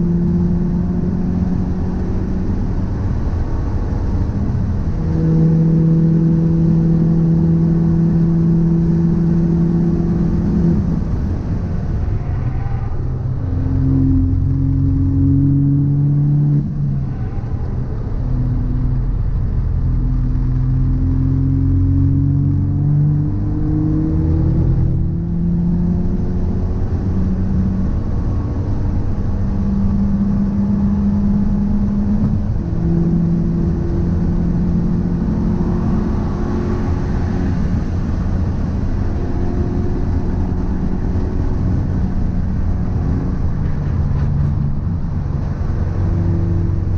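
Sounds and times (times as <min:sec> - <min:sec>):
car engine: 0:00.0 - 0:46.9
road rumble: 0:00.0 - 0:46.9.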